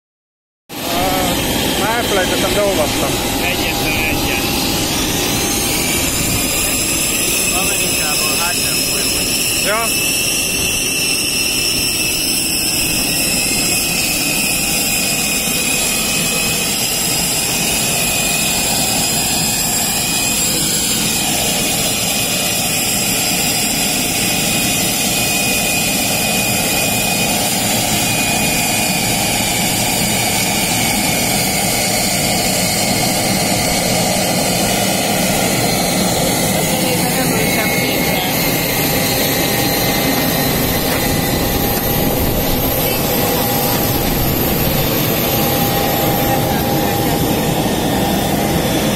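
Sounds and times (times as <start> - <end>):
jet turbine rush and whine: 0.7 - 48.9.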